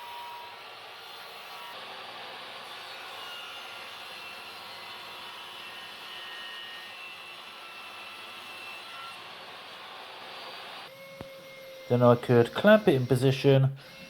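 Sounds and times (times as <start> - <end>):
workshop machine whirring: 0.0 - 11.6.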